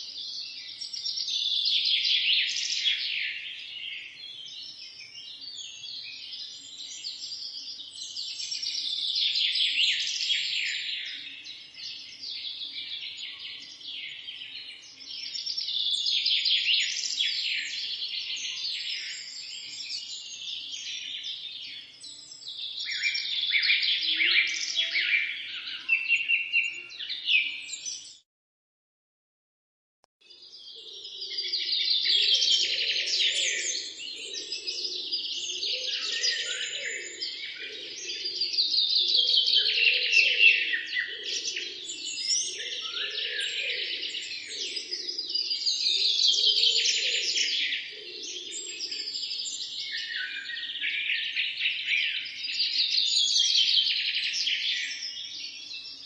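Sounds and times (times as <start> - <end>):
songbirds singing and chirping: 0.0 - 28.2, 30.2 - 56.0.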